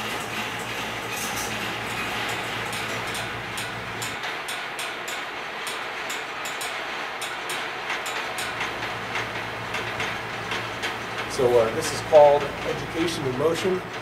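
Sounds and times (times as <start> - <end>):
balls rolling on wire tracks: 0.0 - 14.0.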